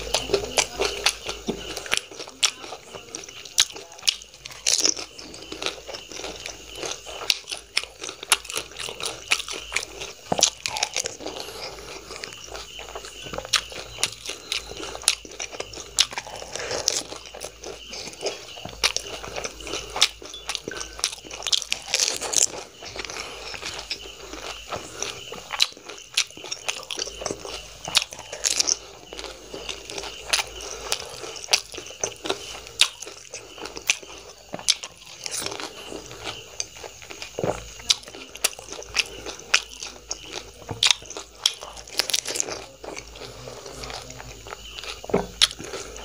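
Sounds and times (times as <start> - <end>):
crunching and chewing crisp food: 0.0 - 46.0.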